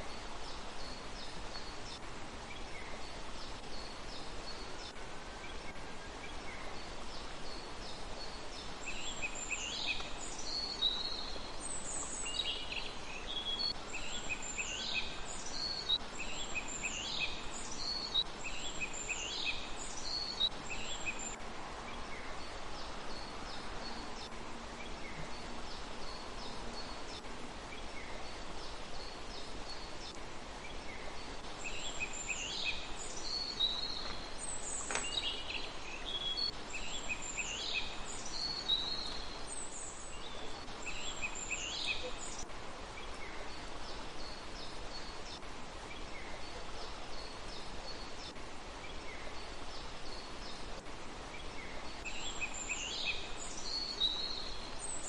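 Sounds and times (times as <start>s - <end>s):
small birds chirping: 0.0s - 55.0s
steady outdoor hiss: 0.0s - 55.0s.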